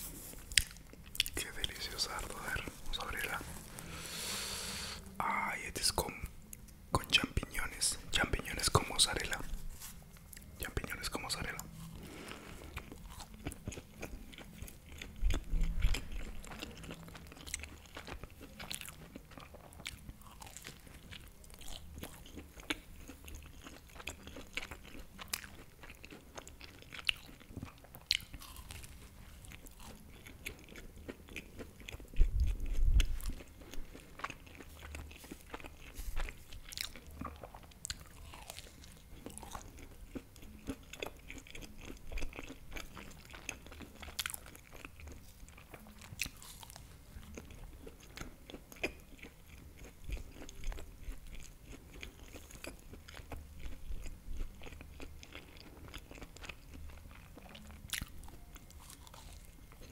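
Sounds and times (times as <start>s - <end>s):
crunchy pastry chewing: 0.0s - 59.9s.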